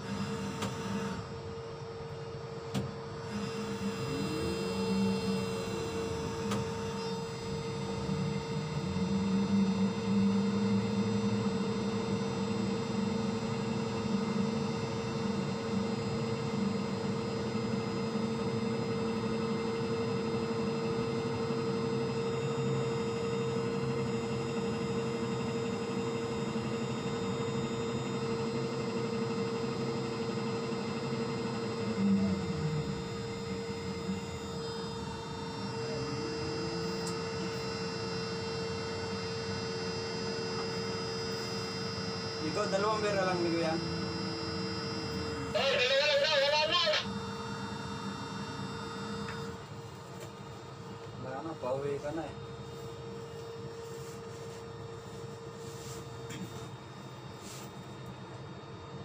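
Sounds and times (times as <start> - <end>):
low machine drone: 0.0 - 52.4
crane machinery humming: 0.0 - 59.0.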